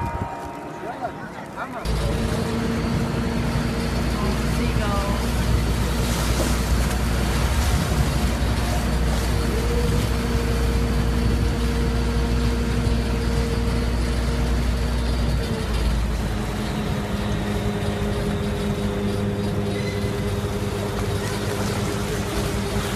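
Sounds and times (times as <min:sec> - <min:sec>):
engine running: 0:00.0 - 0:22.9.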